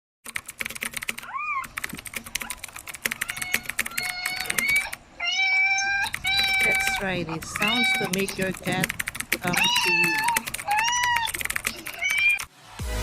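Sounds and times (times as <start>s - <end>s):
rapid clicking: 0.2s - 5.0s, 6.1s - 12.5s.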